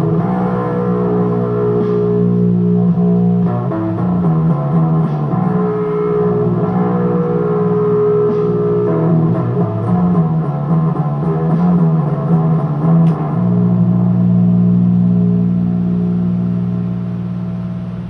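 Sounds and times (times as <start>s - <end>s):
electric guitar notes: 0.0s - 18.0s.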